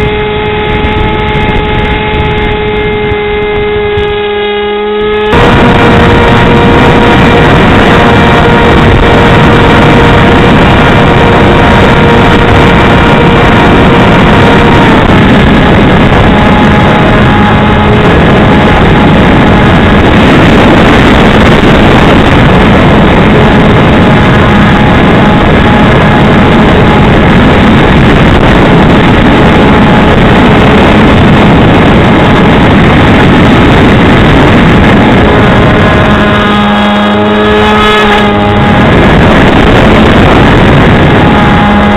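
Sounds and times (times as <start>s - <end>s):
electric motor and propeller whining: 0.0s - 41.9s
wind rush: 0.0s - 41.9s.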